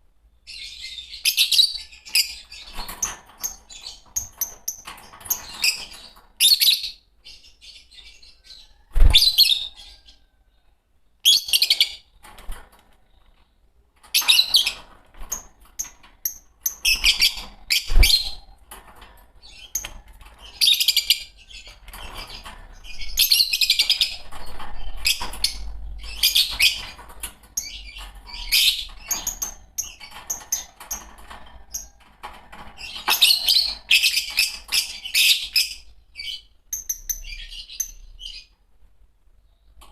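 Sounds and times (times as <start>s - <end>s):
lovebirds chirping and chattering: 0.3s - 38.7s.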